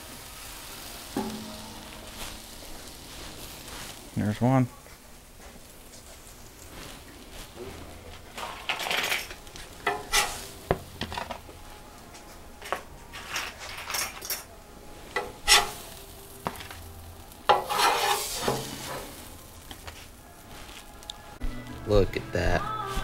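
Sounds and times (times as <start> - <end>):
faint sizzle: 0.0 - 23.0
metal spatula scraping griddle: 0.3 - 4.2, 5.6 - 21.0.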